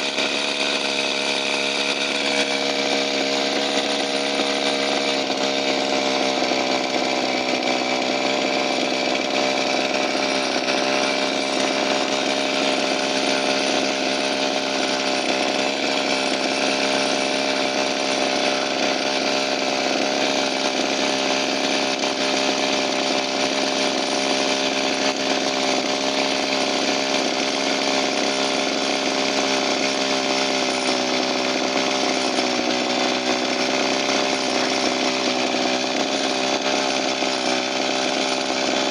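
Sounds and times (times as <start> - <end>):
small two-stroke engine running: 0.0 - 38.9.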